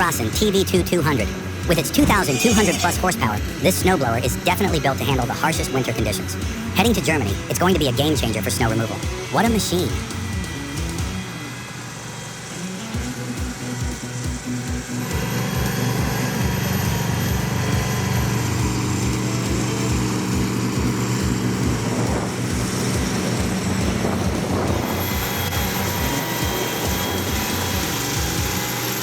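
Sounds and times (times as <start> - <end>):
heavy machine engine running: 0.0 - 29.0.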